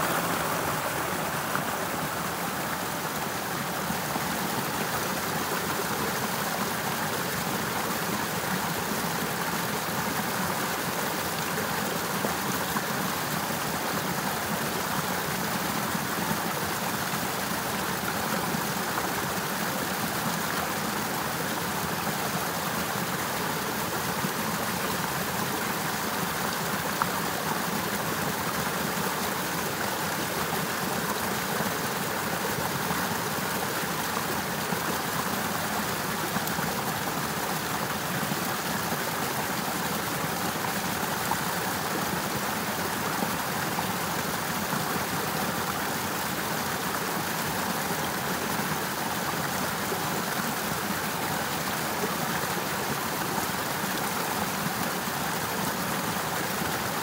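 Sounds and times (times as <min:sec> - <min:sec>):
river water rushing under ice: 0:00.0 - 0:57.0.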